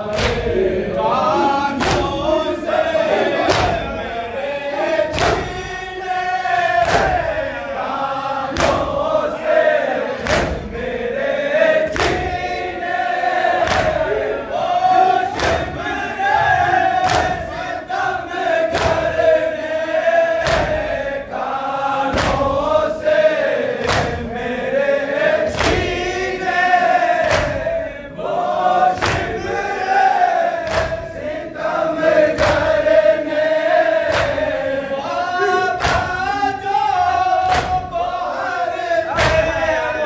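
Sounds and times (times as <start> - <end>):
men chanting a lament: 0.0 - 40.0.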